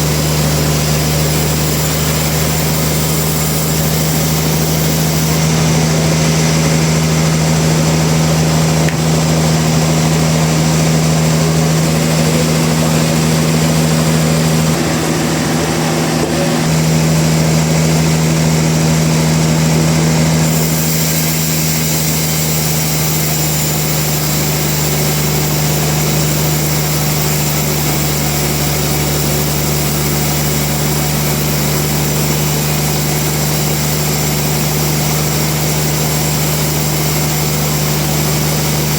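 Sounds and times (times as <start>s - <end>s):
sawmill engine drone: 0.0s - 38.9s.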